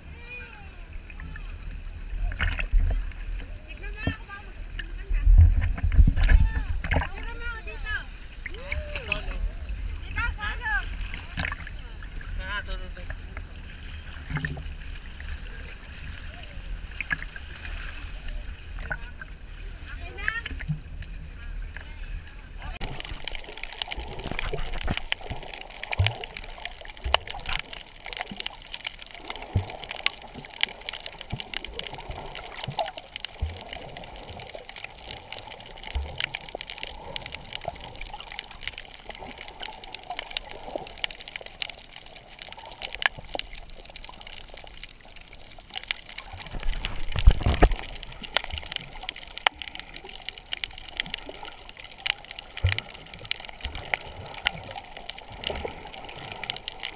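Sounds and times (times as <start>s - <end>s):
muffled underwater rush: 0.0s - 56.9s
underwater clicks and crackles: 0.9s - 56.9s.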